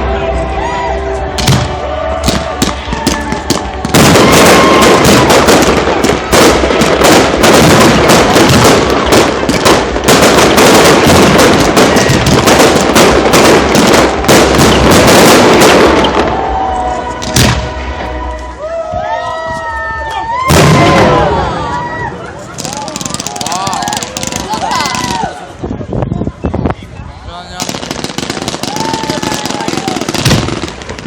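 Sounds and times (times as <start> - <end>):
fireworks bangs and crackling: 1.2 - 18.2, 19.0 - 26.8, 27.4 - 31.0.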